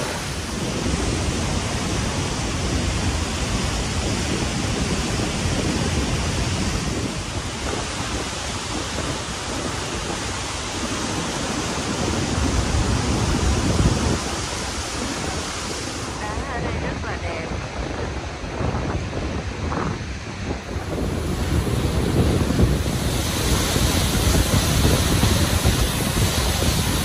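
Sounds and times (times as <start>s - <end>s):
waterfall and river rushing: 0.0s - 27.0s.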